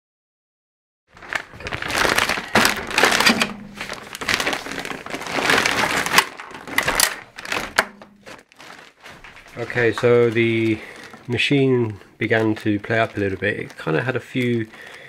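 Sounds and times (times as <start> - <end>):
plastic bag rustling: 1.1 - 15.0.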